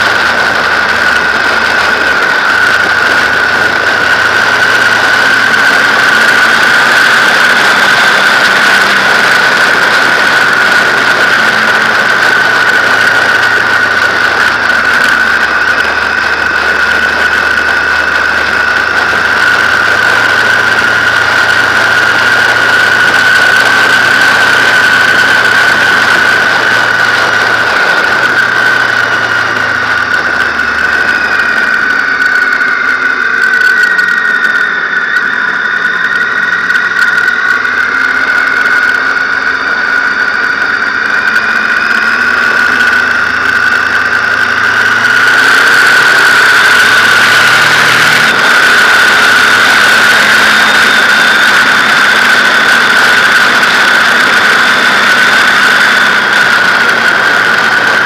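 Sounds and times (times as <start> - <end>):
motorcycle engine: 0.0 - 58.0
whines gliding: 0.0 - 58.0
high whistle: 2.5 - 58.0.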